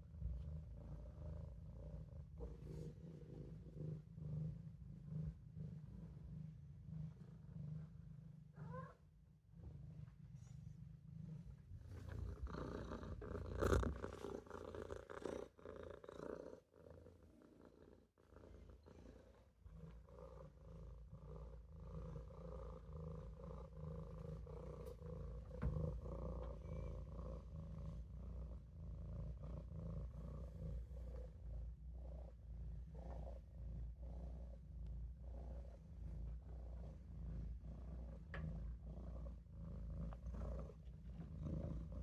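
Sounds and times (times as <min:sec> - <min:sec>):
kitten purring: 0:00.0 - 0:42.0.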